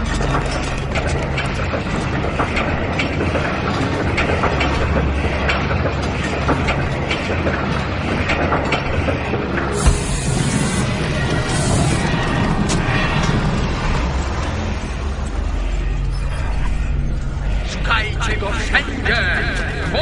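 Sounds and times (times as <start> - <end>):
mechanical clattering and ticking: 0.0 - 16.1
low hum: 0.0 - 20.0.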